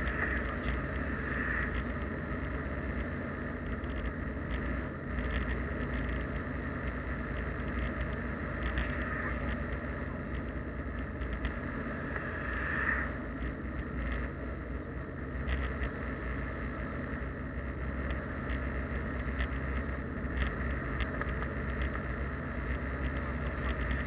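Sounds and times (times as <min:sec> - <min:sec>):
car engine rumble: 0:00.0 - 0:24.0
road noise inside moving car: 0:00.0 - 0:24.0.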